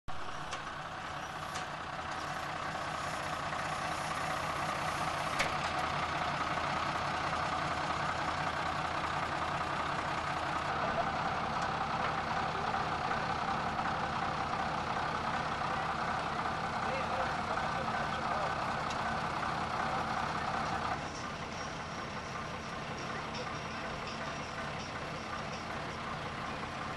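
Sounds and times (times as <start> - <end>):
truck engine idling: 0.1 - 26.9.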